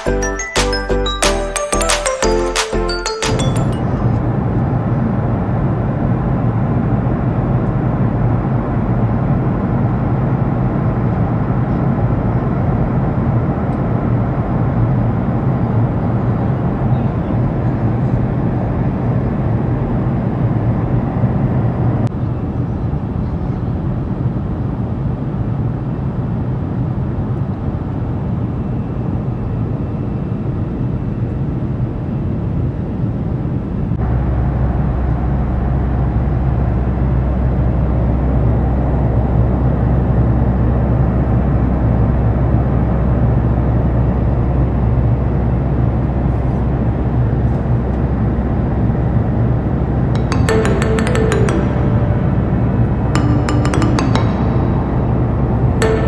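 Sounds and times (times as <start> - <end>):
jet engines in cabin: 2.0 - 56.0.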